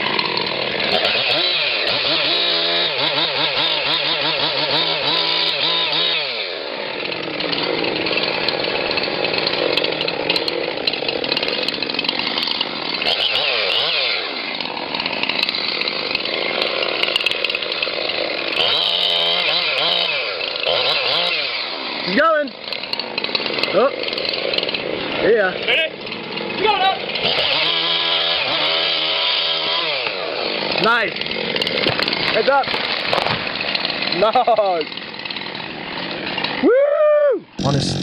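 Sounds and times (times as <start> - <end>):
chainsaw running at high speed: 0.0 - 36.7, 37.5 - 38.0.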